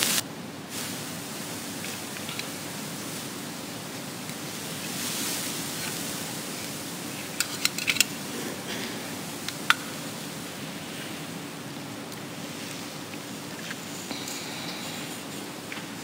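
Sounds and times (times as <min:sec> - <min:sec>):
room tone hiss: 0:00.0 - 0:16.0.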